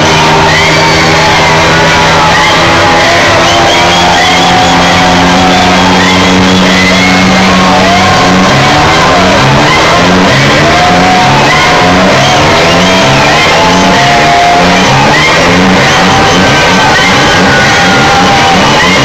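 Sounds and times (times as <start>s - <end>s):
crowd shouting and whooping: 0.0s - 19.0s
loud dance music: 0.0s - 19.0s.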